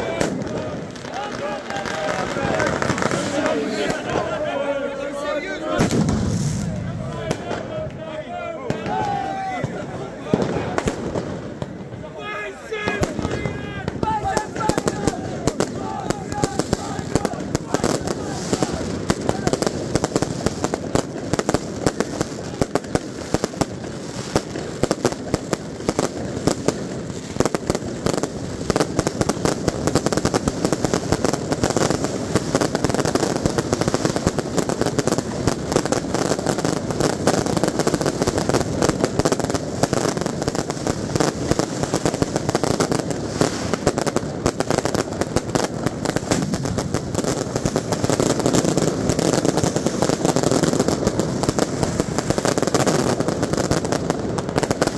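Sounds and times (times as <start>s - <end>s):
fireworks and firecrackers banging: 0.0s - 54.9s.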